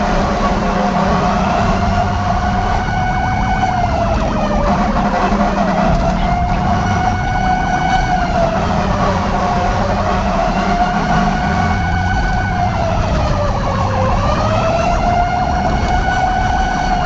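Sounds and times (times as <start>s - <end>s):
low rumble: 0.0s - 17.0s
siren wailing: 0.0s - 17.0s.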